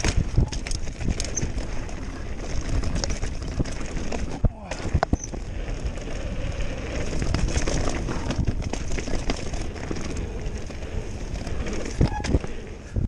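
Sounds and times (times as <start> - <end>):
bike rattling: 0.0 - 13.0
bike tyres rumbling over dirt: 0.0 - 13.0
wind rushing over microphone: 0.0 - 13.0.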